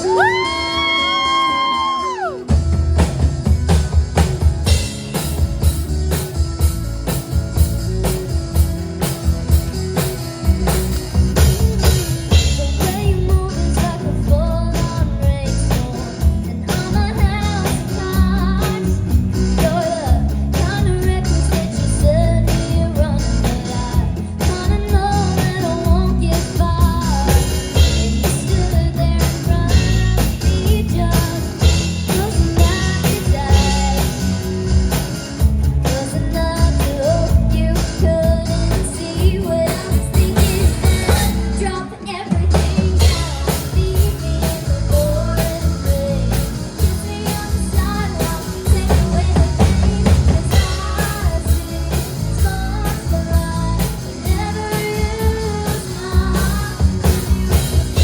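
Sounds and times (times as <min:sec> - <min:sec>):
pop-rock band playing: 0:00.0 - 0:58.0.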